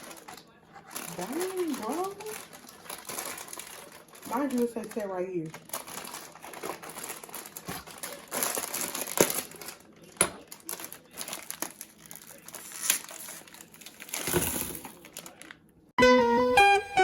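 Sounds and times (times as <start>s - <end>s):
packaging crinkling: 0.0s - 15.6s.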